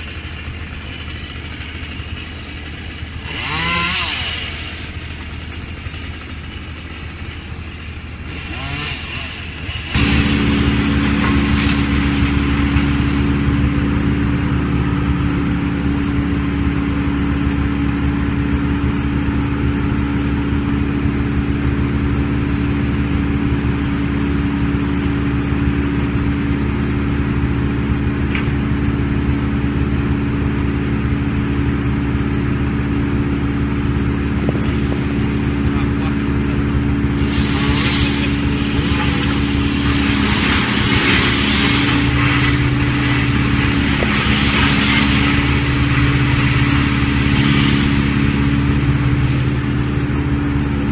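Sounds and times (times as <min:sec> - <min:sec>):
heavy engine running steadily: 0:00.0 - 0:50.9.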